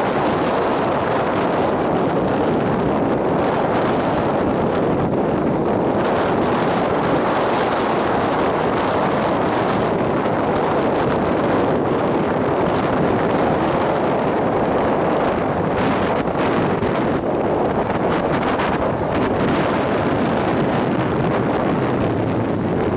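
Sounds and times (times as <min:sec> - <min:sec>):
waves breaking on the shore: 0:00.0 - 0:22.9
wind buffeting the microphone: 0:00.0 - 0:22.9.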